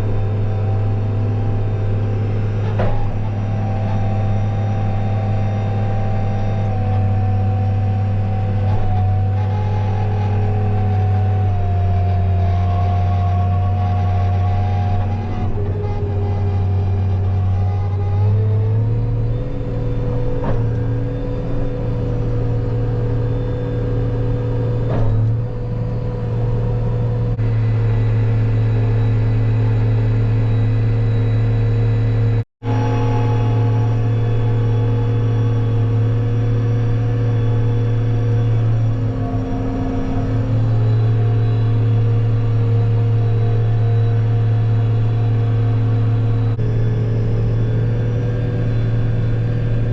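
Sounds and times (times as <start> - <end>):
heavy vehicle engine droning: 0.0 - 49.9.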